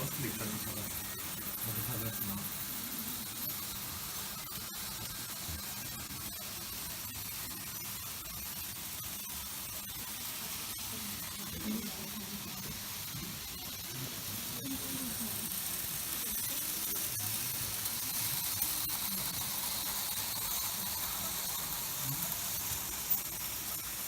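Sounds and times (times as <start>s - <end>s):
model trains running hiss: 0.0s - 24.0s.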